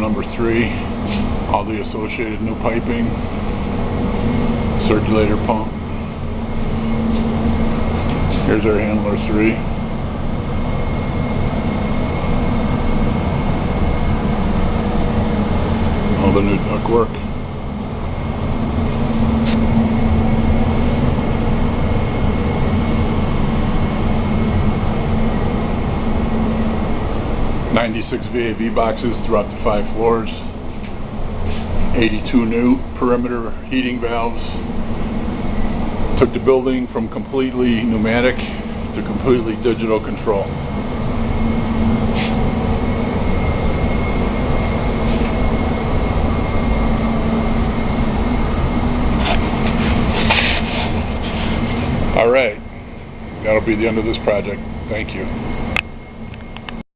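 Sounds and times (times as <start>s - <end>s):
faint high whine: 0.0s - 56.8s
hvac machinery droning: 0.0s - 56.8s
low rumble: 0.0s - 56.8s
steady hum: 0.0s - 56.8s.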